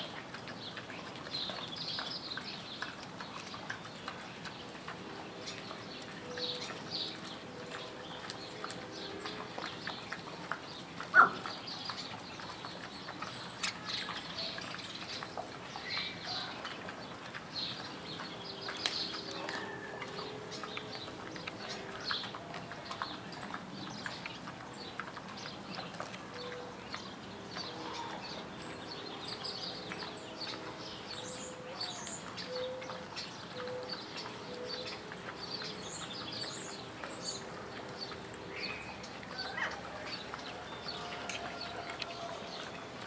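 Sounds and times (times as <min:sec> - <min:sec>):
hogs rooting through straw: 0:00.0 - 0:43.0
small birds chirping: 0:00.0 - 0:43.0.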